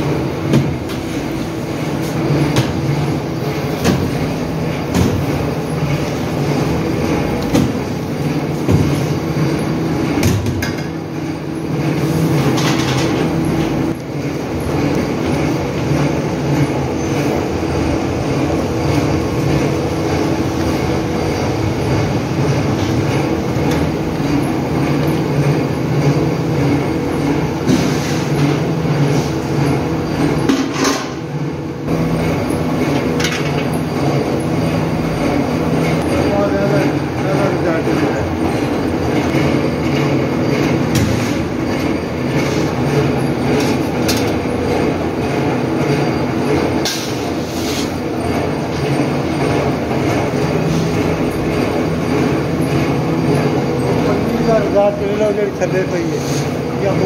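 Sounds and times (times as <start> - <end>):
factory machinery droning: 0.0 - 57.0.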